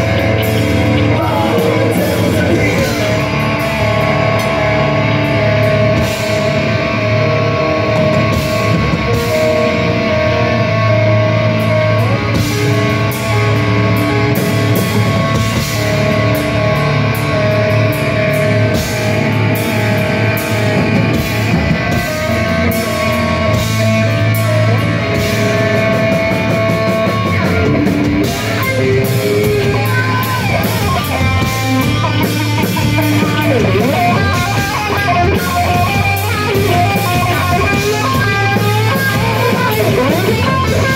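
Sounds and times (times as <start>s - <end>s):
distorted electric guitar: 0.0s - 40.9s
drum kit with cymbal hits: 0.0s - 40.9s
electric bass: 0.0s - 40.9s.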